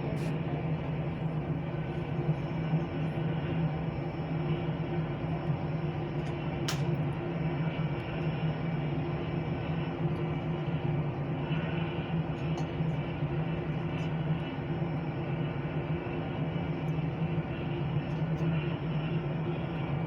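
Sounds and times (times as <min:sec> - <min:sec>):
jet engines humming and whining: 0:00.0 - 0:20.0.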